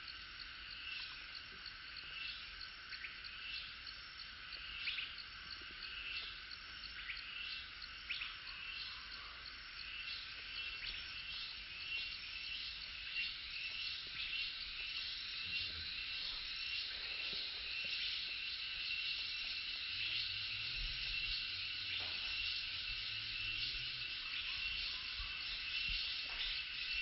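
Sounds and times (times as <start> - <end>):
insects trilling: 0.0 - 27.0
short insect chirps: 0.0 - 27.0.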